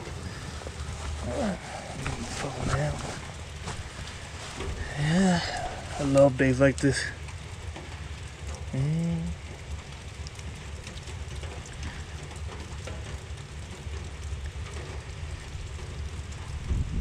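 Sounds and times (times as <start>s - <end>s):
drops ticking: 0.0s - 16.6s
light rain: 0.0s - 17.0s
low rumble: 0.0s - 17.0s.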